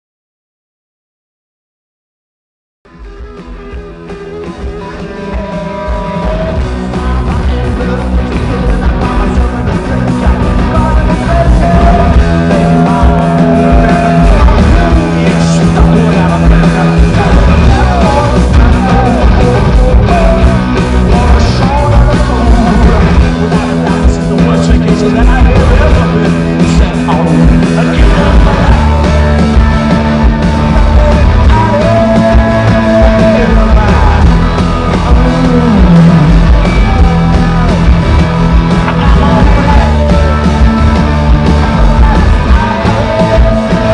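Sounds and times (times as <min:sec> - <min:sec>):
rock band playing: 0:02.9 - 0:43.9.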